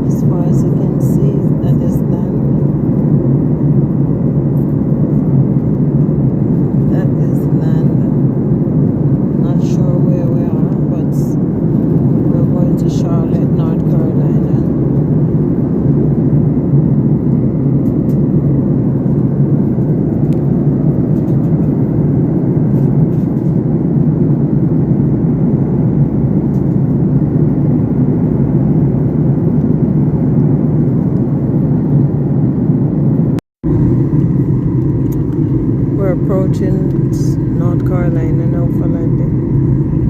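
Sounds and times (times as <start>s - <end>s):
low rumble of moving vehicle: 0.0s - 40.0s.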